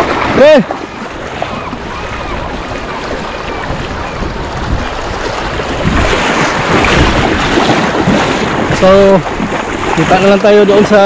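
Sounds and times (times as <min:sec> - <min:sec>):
river water rushing: 0:00.0 - 0:11.0
wind gusts on microphone: 0:00.0 - 0:11.0.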